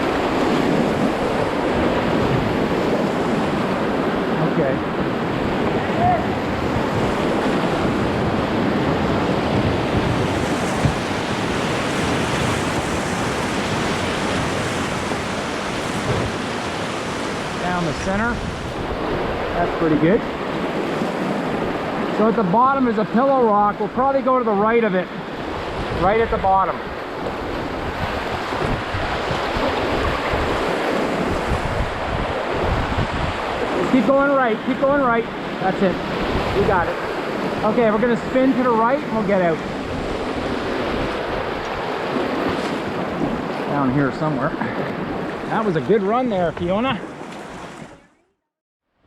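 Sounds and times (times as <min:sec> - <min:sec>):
wind buffeting microphone: 0:00.0 - 0:22.2, 0:25.2 - 0:47.9
whitewater rapids rushing: 0:00.0 - 0:47.8.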